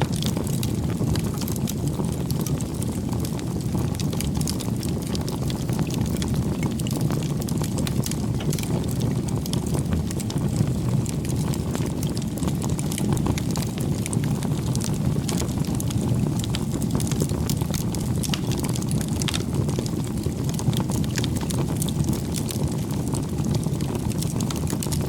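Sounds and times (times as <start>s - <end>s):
bonfire crackling and popping: 0.0s - 25.0s
low fire rumble: 0.0s - 25.0s.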